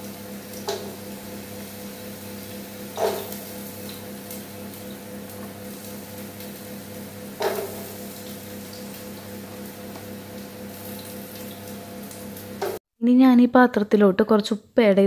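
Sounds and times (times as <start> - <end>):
onions sizzling in hot ghee: 0.0 - 12.8.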